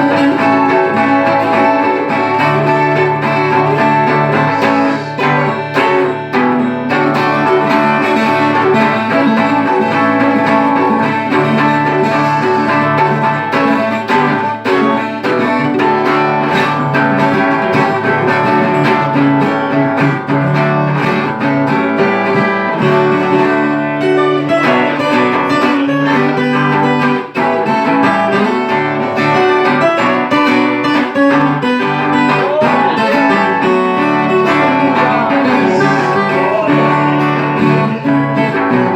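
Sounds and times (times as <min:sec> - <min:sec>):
acoustic guitars playing together: 0:00.0 - 0:38.9.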